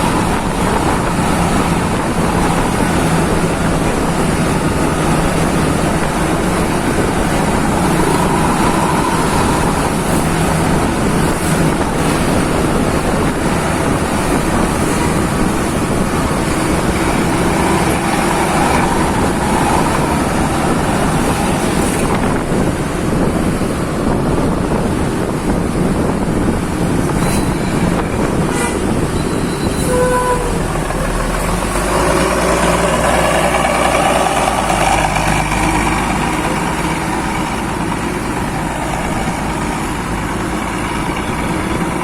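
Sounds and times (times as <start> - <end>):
road vehicle running rumble: 0.0 - 42.0
wind buffeting microphone: 0.0 - 42.0.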